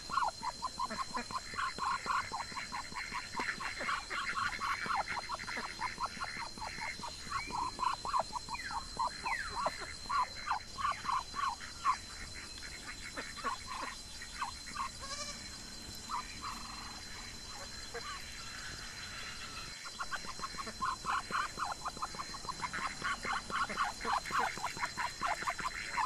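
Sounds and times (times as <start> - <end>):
ducks quacking: 0.0 - 15.4, 16.1 - 18.3, 19.8 - 26.0.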